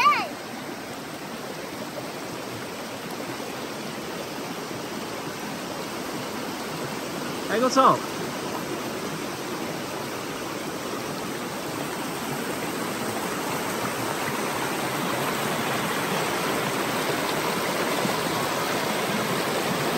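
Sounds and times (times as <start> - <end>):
river rushing over rocks: 0.0 - 19.9.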